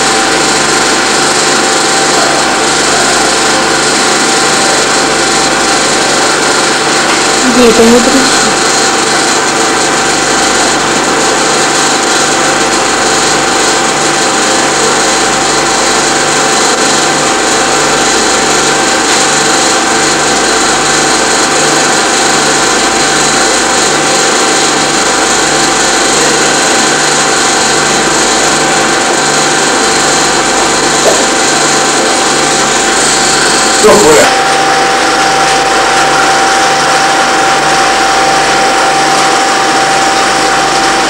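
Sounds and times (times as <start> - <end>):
film projector whirring: 0.0 - 41.0.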